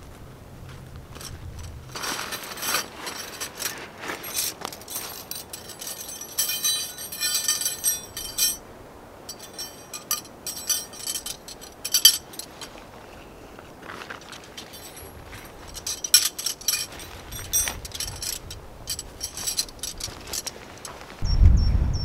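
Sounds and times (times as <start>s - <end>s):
metal tent pegs clinking: 1.1s - 21.2s.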